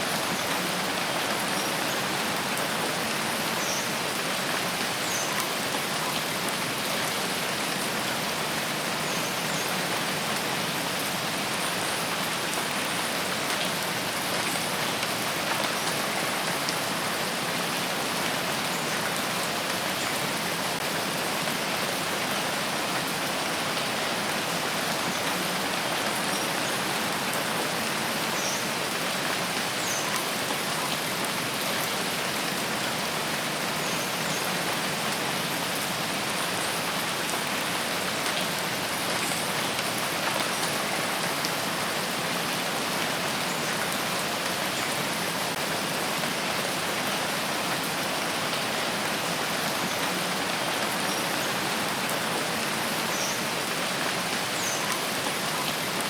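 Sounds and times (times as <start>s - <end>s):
rain pattering on foliage: 0.0s - 56.0s.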